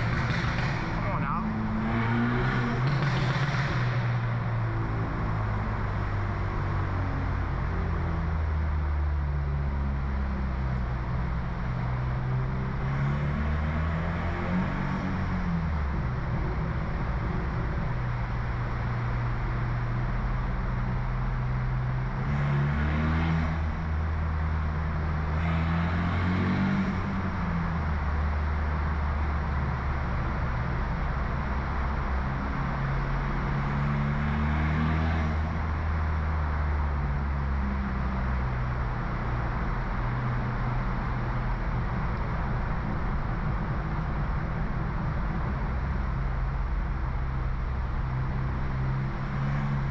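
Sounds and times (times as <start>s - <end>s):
car engine and exhaust drone: 0.0s - 49.9s.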